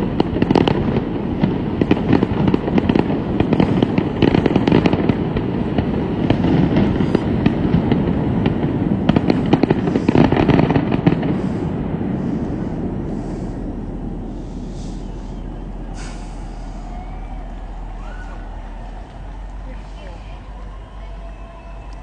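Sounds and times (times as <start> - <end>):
fireworks bangs and crackles: 0.0 - 22.0
low rumble: 0.0 - 22.0.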